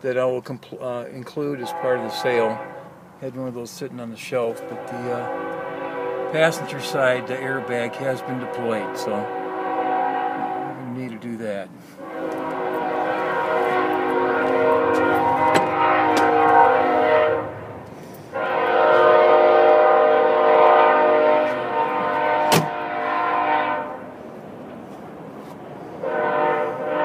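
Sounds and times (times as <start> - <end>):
loud multi-tone horn blasts: 1.6 - 3.0, 4.4 - 24.3, 26.0 - 27.0.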